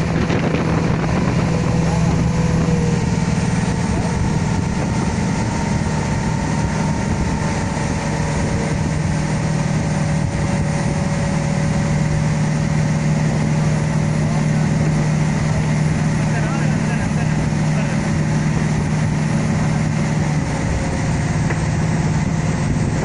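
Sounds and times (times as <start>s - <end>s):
rushing wake water: 0.0s - 23.0s
speedboat engine drone: 0.0s - 23.0s.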